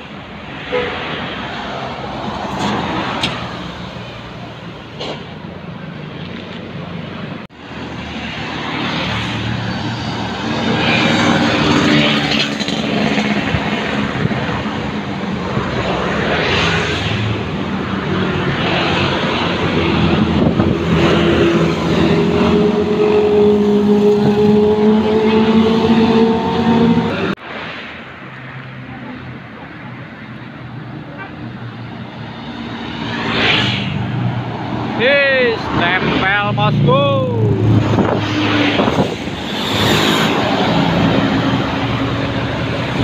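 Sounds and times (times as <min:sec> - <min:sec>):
motorcycles and cars passing: 0:07.6 - 0:43.0.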